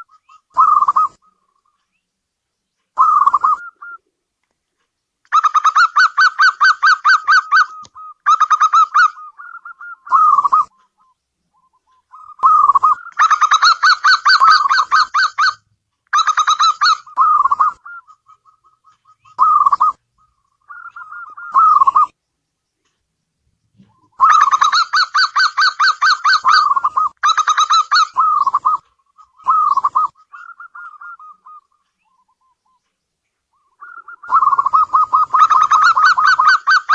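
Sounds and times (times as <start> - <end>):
dove cooing: 0.0 - 1.8, 3.0 - 4.1, 5.3 - 15.6, 16.2 - 22.2, 23.8 - 32.8, 33.5 - 36.9.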